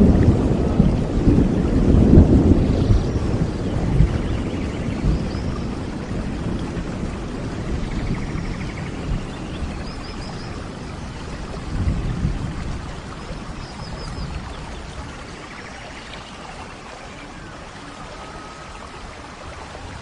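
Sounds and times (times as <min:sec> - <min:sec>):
low rolling thunder: 0:00.0 - 0:20.0
steady rain: 0:00.0 - 0:20.0.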